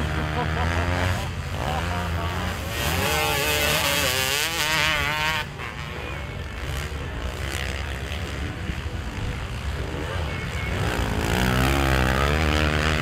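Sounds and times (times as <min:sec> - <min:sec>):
dirt bike engines revving: 0:00.0 - 0:13.0
distant motorcycle engines: 0:00.0 - 0:13.0.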